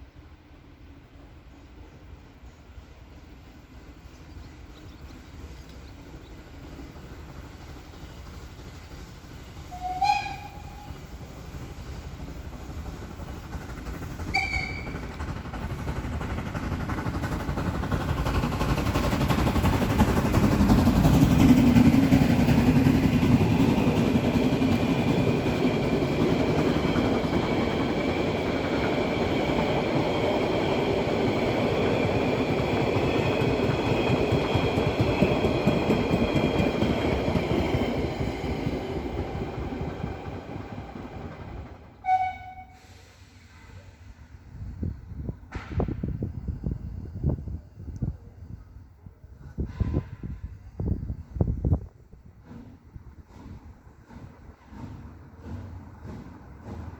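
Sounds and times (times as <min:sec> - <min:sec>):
steam train wheels on rails: 0:00.0 - 0:56.9.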